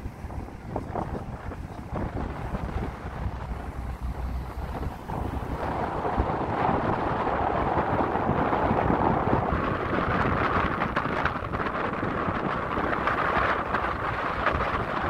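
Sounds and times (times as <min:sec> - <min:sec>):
boat engine: 0:00.0 - 0:15.0
water rushing: 0:00.0 - 0:15.0
wind buffeting microphone: 0:00.0 - 0:15.0.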